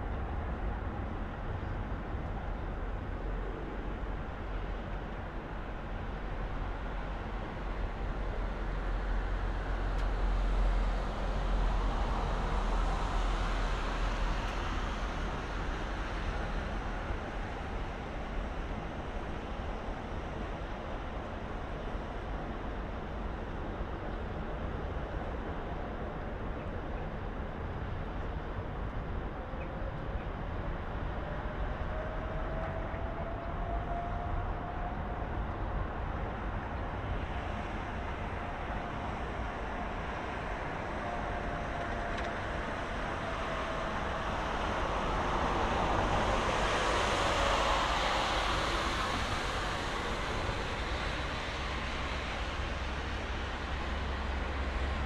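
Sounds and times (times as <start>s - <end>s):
city road traffic: 0.0s - 55.0s.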